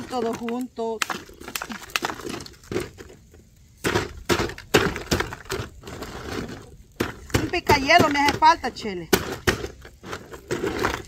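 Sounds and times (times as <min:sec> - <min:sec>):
ice cracking and crunching: 0:00.0 - 0:11.0.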